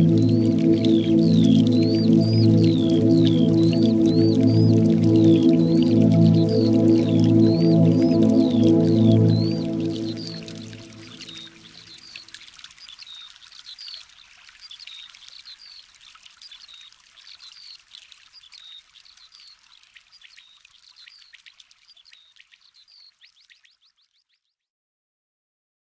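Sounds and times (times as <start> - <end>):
small birds chirping: 0.0 - 24.6
trickling water: 0.0 - 24.6.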